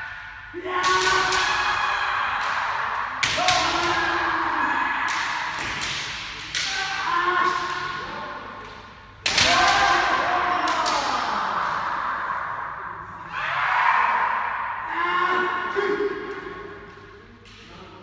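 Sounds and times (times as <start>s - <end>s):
long drawn-out shouts: 0.0s - 5.8s, 6.5s - 8.3s, 9.3s - 16.8s.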